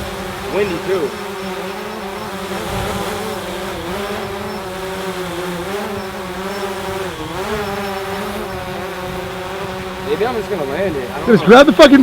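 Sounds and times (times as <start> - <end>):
drone propeller buzz: 0.0 - 12.0.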